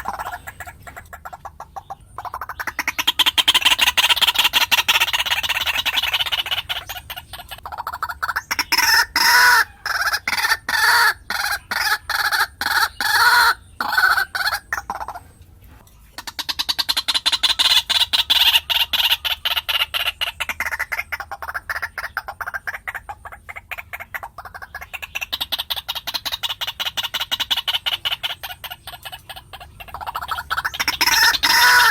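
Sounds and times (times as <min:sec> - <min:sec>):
waterhen calling harsh notes: 0:00.0 - 0:15.3, 0:16.2 - 0:31.9.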